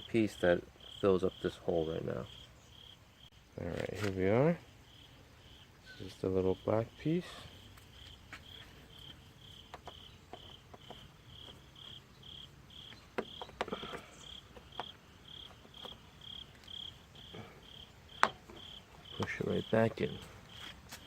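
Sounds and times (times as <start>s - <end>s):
cricket chirping: 0.0s - 3.4s, 4.6s - 21.0s.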